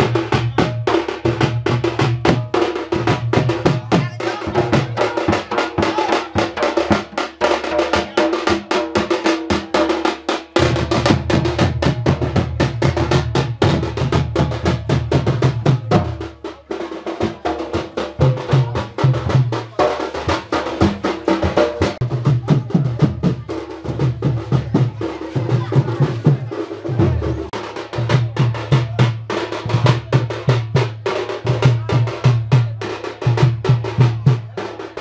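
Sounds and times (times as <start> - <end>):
drums beating fast rhythm: 0.0 - 35.0.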